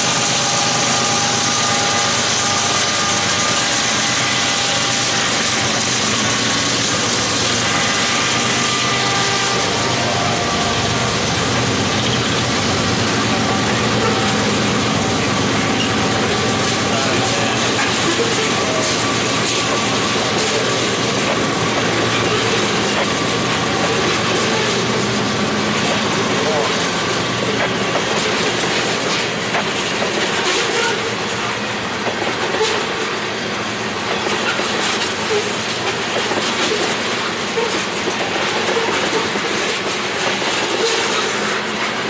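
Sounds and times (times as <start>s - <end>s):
diesel locomotives passing: 0.0s - 42.0s
train wheels on rails: 0.0s - 42.0s.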